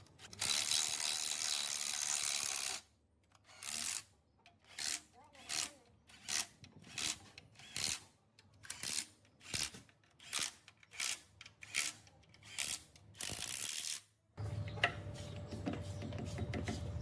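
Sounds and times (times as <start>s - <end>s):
ratchet wrench clicking: 0.2s - 14.1s.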